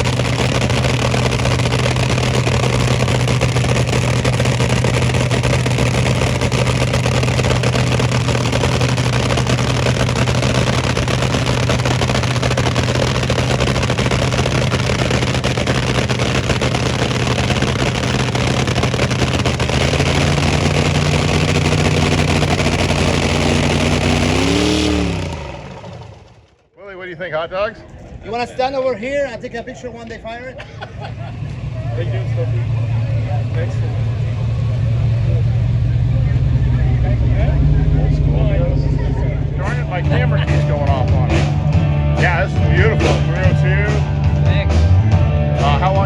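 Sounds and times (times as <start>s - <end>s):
car engine idling: 0.0s - 26.8s, 30.6s - 46.0s.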